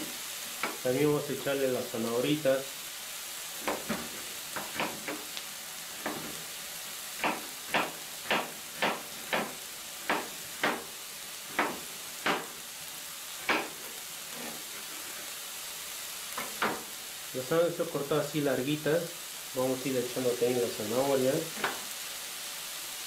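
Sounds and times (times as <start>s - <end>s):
sharp popping of frying food: 0.0s - 17.4s, 19.0s - 23.0s
vegetables sizzling in a frying pan: 0.0s - 23.0s.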